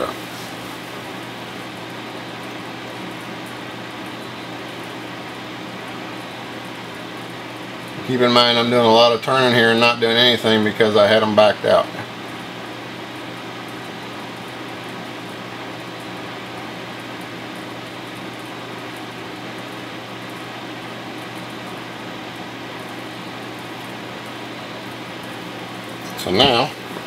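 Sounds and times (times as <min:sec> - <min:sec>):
fan-like hum and hiss: 0:00.0 - 0:27.0.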